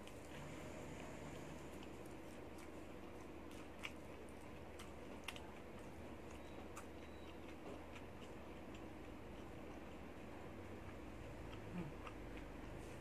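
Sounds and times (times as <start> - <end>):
low steady hum: 0.0 - 13.0
person chewing crispy food: 1.6 - 13.0.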